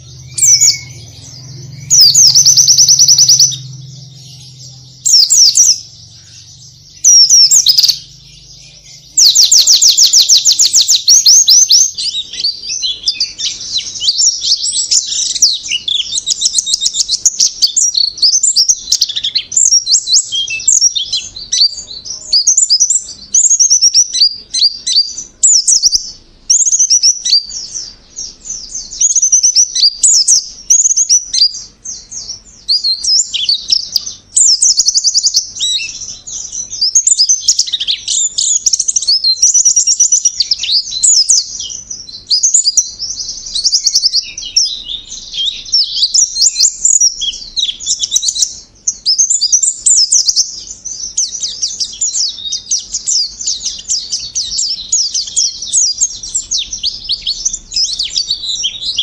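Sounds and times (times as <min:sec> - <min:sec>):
bird singing warbling trills: 0:00.0 - 0:59.0.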